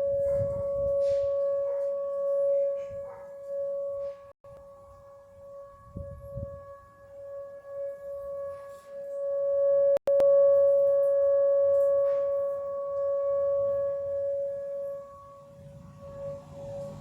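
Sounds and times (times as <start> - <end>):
tornado siren steady tone: 0.0 - 17.0.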